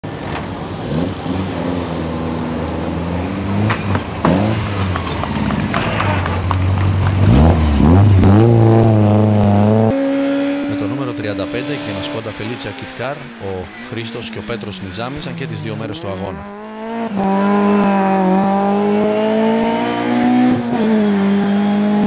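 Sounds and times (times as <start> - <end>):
rally car engine idling and revving: 0.0 - 22.0.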